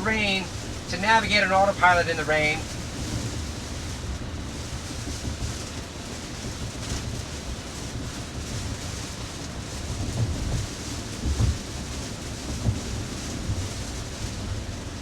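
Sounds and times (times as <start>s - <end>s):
low road rumble: 0.0s - 15.0s
rain on car: 0.0s - 15.0s.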